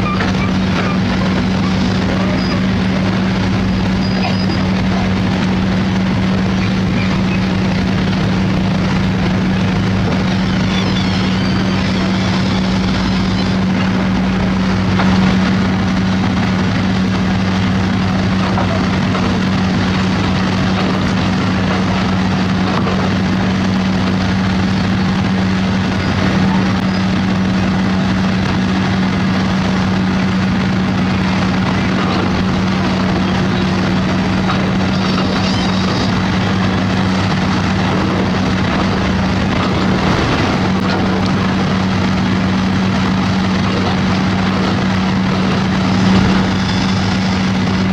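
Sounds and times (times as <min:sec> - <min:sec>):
diesel engine running under load: 0:00.0 - 0:47.9.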